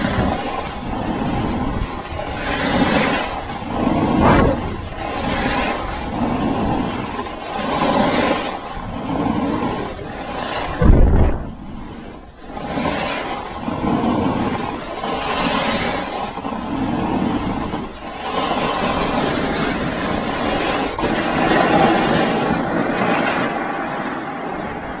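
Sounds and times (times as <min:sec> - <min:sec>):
ski edges scraping snow: 0:00.0 - 0:24.6.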